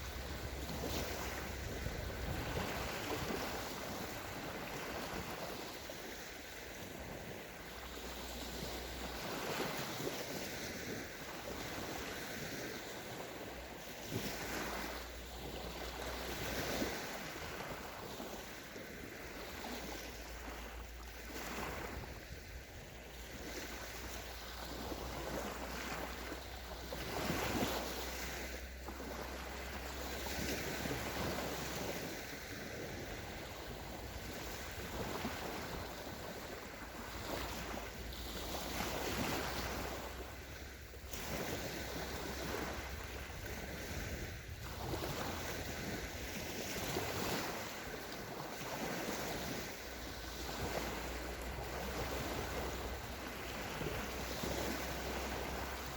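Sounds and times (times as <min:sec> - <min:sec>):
waves washing onto beach: 0:00.0 - 0:55.9.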